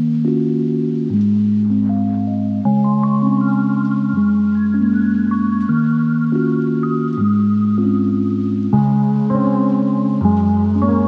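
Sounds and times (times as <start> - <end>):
soft slow melody: 0.0 - 11.0.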